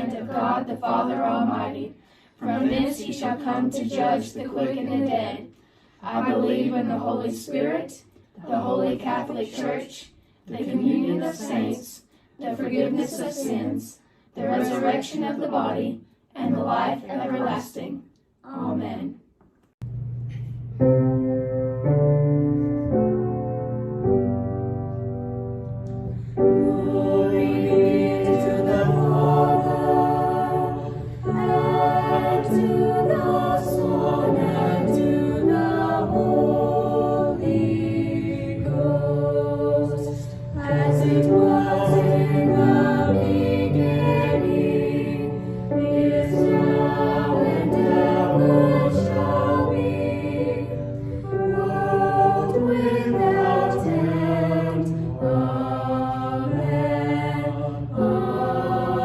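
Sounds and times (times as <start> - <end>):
choir singing in harmony: 0.0 - 17.9, 25.9 - 59.0.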